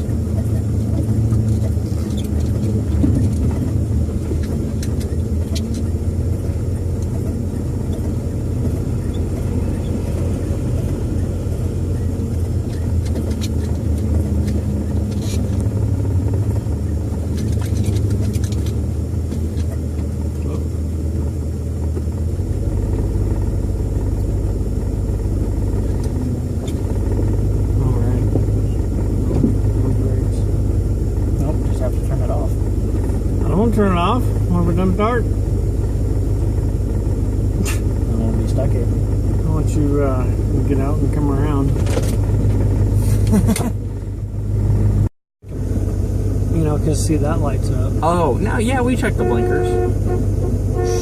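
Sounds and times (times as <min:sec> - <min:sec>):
faint rattles: 0:00.0 - 0:44.3
car engine and road rumble: 0:00.0 - 0:51.0.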